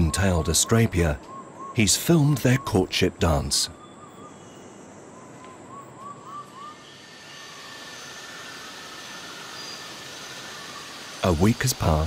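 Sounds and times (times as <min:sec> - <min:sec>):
faint bird whistling: 0:00.0 - 0:11.0
rainforest ambience hiss: 0:00.0 - 0:12.0.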